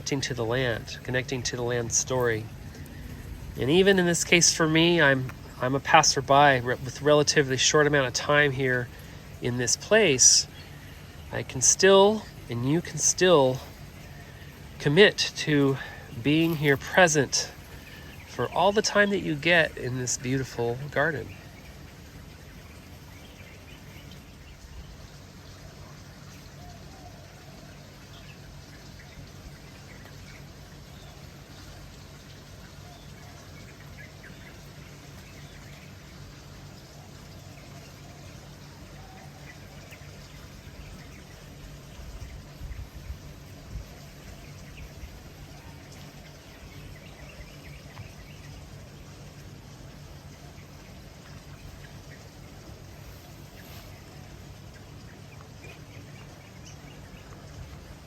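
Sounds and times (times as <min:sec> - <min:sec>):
low background rush: 0:00.0 - 0:58.0
outdoor background hiss: 0:00.0 - 0:58.0.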